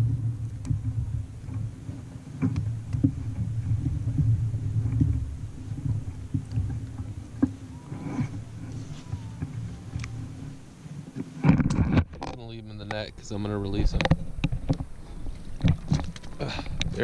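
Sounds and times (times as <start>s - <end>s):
low rumble through kayak hull: 0.0s - 17.0s.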